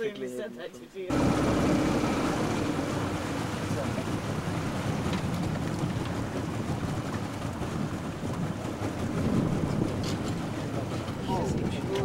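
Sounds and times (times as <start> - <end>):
vehicle engine rumbling: 1.1 - 12.0.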